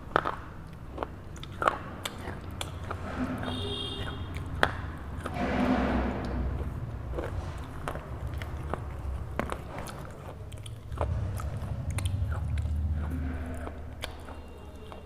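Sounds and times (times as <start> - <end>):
crunching with teeth: 0.0 - 5.4, 6.2 - 15.0.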